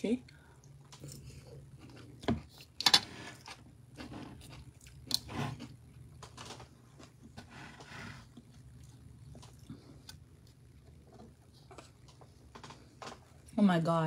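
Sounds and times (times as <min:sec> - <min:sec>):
person chewing food: 0:00.3 - 0:13.5.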